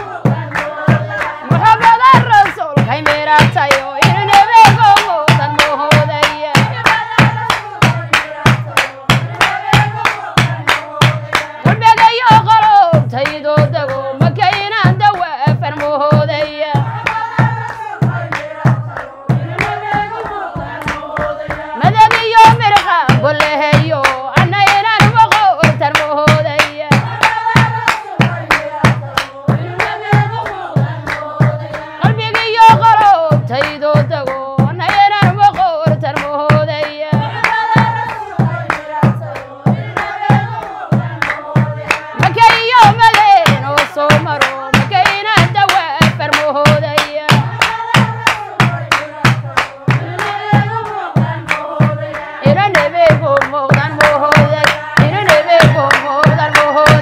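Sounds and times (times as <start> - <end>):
hand clapping: 0.0 - 57.0
women singing devotional song: 0.0 - 57.0.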